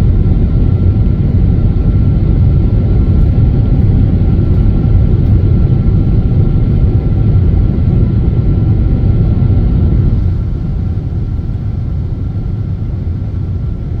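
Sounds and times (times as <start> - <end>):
airplane engine rumble: 0.0 - 14.0.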